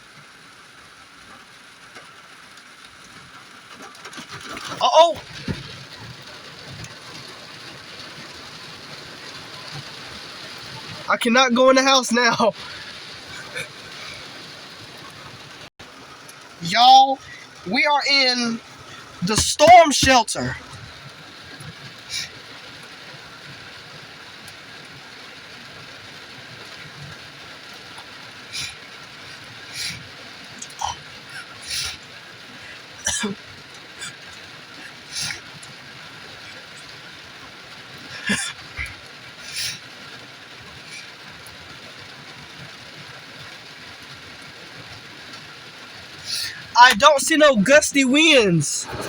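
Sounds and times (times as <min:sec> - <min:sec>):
heavy rain falling: 0:00.0 - 0:49.0.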